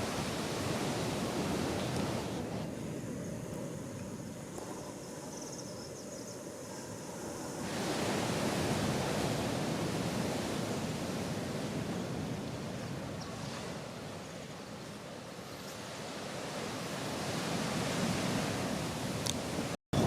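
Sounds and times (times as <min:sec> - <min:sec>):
ocean surf washing on shore: 0:00.0 - 0:20.0.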